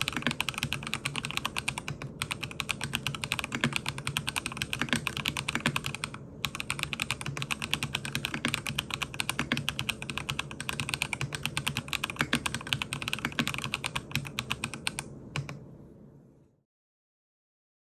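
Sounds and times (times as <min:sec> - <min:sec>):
mechanical keyboard typing: 0:00.0 - 0:15.6.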